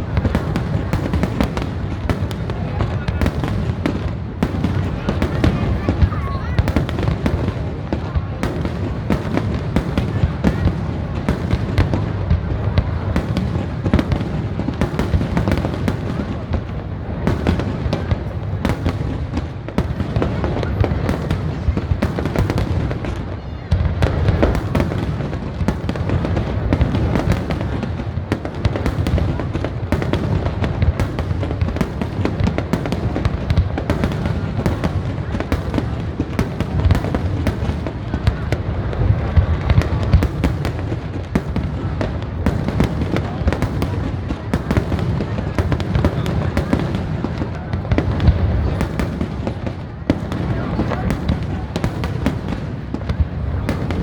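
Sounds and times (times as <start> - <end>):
fireworks booms: 0.0 - 54.0
fireworks crackling: 0.0 - 54.0.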